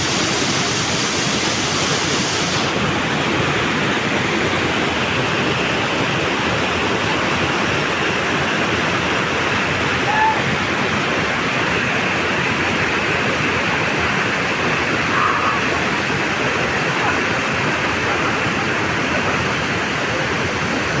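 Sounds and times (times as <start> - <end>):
waterfall crashing: 0.0 - 21.0.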